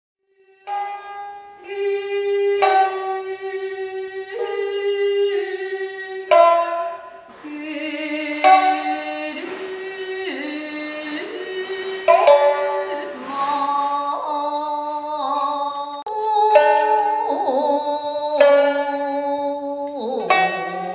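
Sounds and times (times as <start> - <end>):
shamisen plucked melody: 0.6 - 14.1, 16.1 - 20.9.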